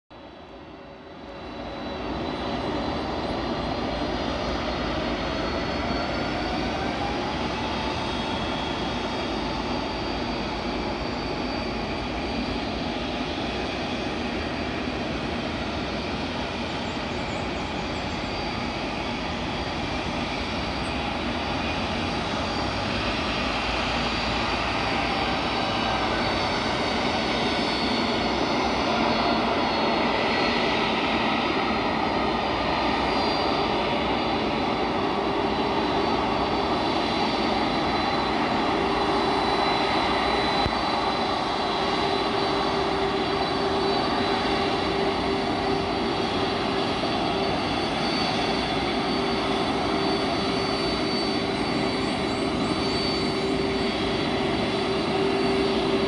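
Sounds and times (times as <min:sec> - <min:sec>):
jet engines taxiing: 0:00.2 - 0:56.0.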